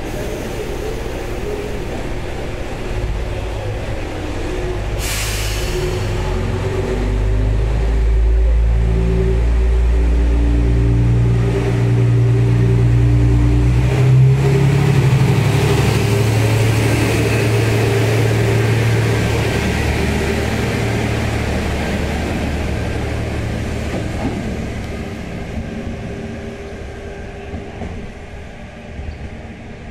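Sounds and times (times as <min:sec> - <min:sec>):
diesel railcar engine: 0:00.0 - 0:29.9.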